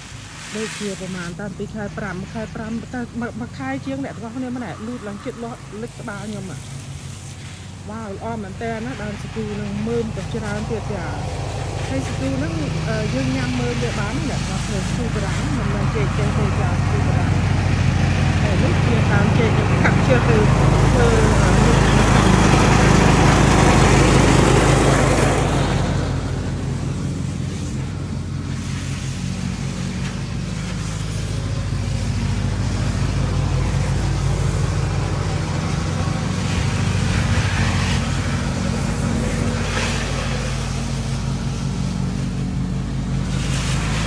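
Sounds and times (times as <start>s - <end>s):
lawnmower engine running: 0.0s - 44.0s.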